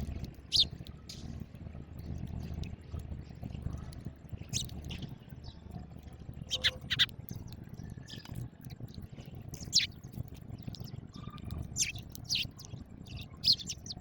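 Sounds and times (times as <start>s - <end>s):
sparrows chirping: 0.0s - 14.0s.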